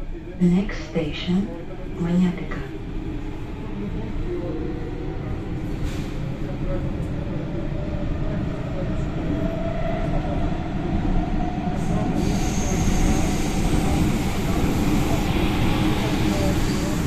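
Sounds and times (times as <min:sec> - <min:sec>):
metro train rumble: 0:00.0 - 0:17.0.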